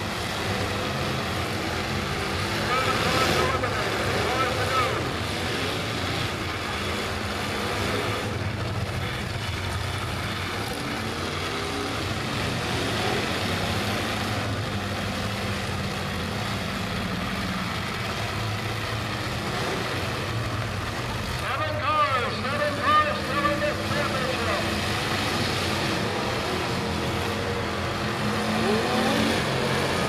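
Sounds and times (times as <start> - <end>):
demolition derby car engines: 0.0 - 30.0.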